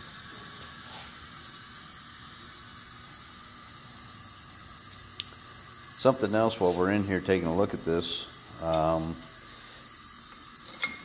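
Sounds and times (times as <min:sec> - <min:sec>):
compressed air hissing: 0:00.0 - 0:04.4, 0:05.4 - 0:10.8.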